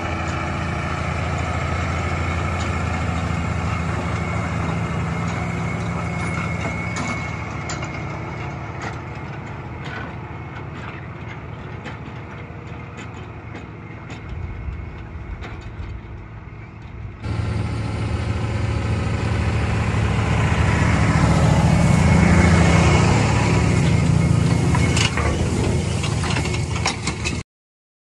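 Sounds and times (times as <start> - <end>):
tractor diesel engine under load: 0.0 - 27.4.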